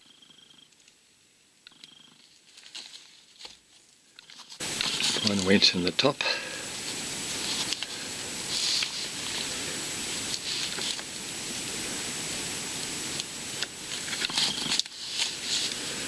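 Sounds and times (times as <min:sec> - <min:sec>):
steady background hiss: 0:00.0 - 0:16.0
rubber tubes rubbing and rustling: 0:02.2 - 0:05.8, 0:06.7 - 0:16.0.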